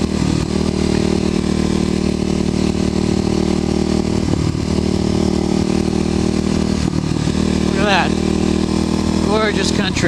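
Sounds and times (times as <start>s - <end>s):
motorcycle engine cruising: 0.0s - 10.0s
road noise: 0.0s - 10.0s.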